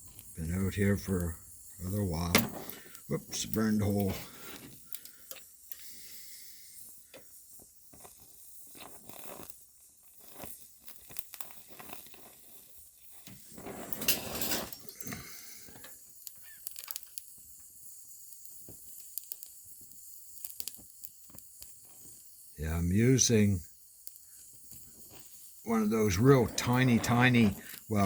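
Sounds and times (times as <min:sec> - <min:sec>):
arc welding crackling: 0:00.0 - 0:28.0.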